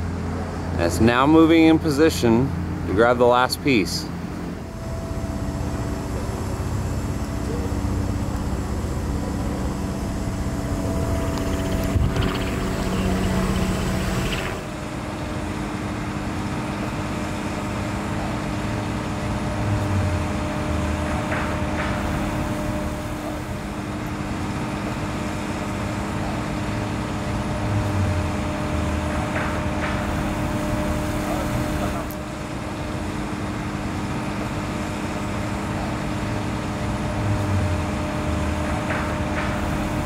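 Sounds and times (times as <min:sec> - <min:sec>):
crane diesel engine running: 0:02.5 - 0:40.0.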